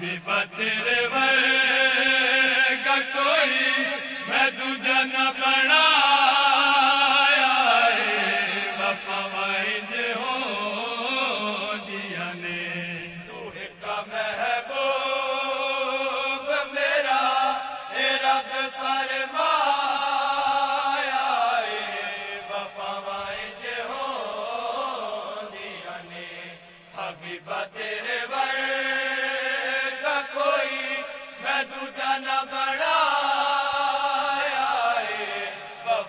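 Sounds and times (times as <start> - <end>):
men's chorus singing: 0.0 - 36.0.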